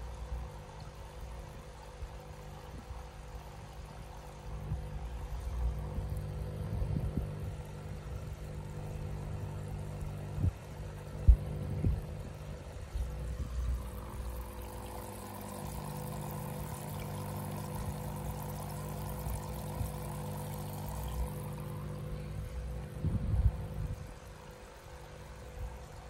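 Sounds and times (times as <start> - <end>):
pump hum: 0.0 - 26.0
water pouring into aquarium: 0.0 - 26.0.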